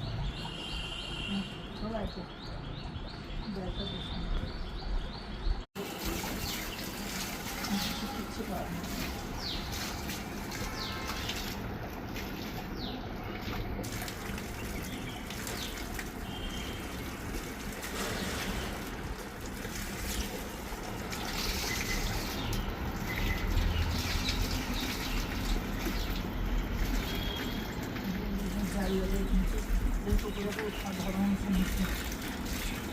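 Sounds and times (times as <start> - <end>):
shower water splashing: 5.8 - 32.9.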